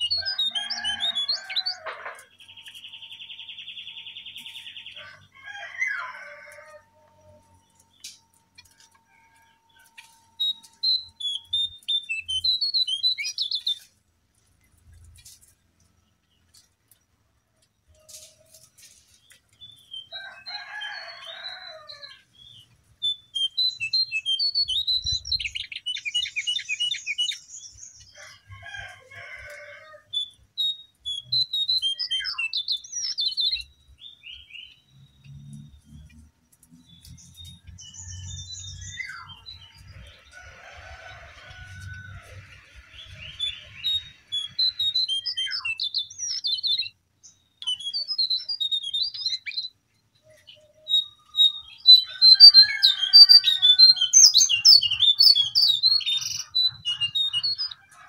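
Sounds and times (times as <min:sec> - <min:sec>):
bird chirping phrases: 0:00.0 - 0:14.0, 0:17.8 - 0:28.2, 0:30.0 - 0:40.4, 0:42.2 - 0:57.9.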